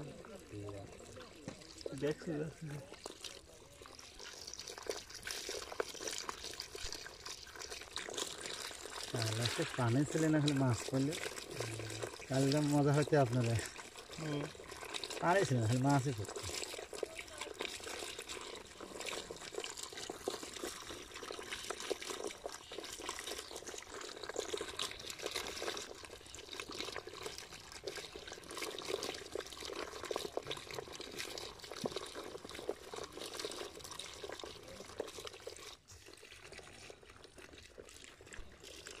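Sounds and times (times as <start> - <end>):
water pouring and splashing: 0.0 - 39.0.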